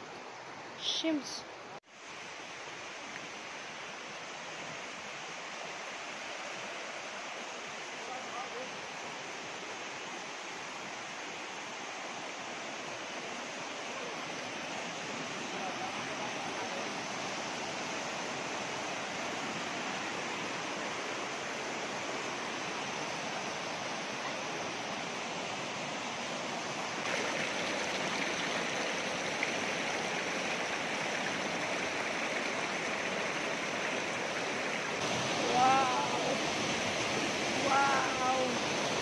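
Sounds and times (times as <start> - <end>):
mountain stream rushing over stones: 0.0 - 39.0.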